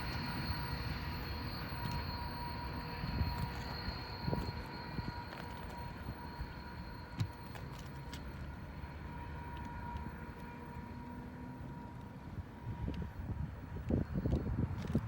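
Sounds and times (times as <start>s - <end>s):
faint high-pitched tones: 0.0s - 13.3s
train rolling along track: 0.0s - 15.0s.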